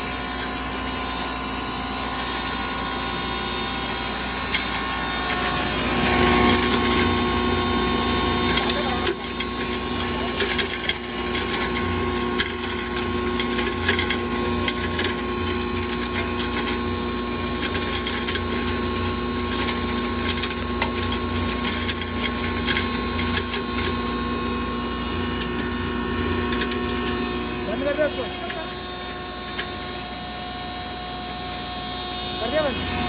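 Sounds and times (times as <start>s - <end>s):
grinding machine motor hum: 0.0s - 33.0s.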